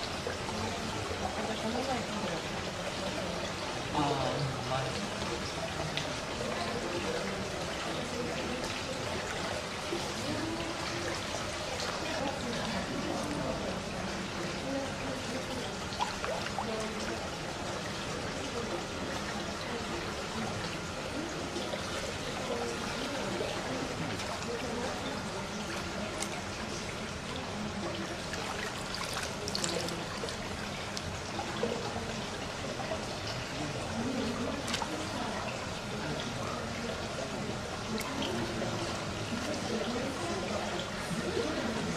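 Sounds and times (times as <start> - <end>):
faint voices: 0.0 - 41.9
running water trickling: 0.0 - 41.9
rushing pouring noise: 0.0 - 41.9.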